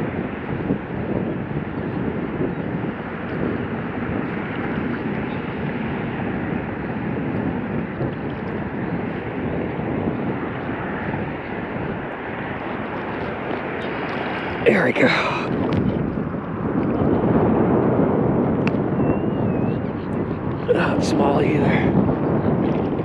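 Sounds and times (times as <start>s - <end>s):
wind blowing across microphone: 0.0s - 23.0s.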